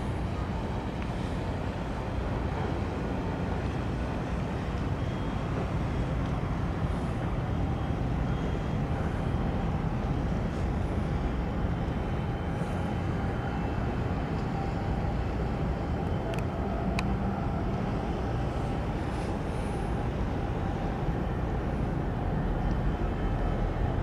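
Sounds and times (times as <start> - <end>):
harbour rumble and hiss: 0.0 - 24.0.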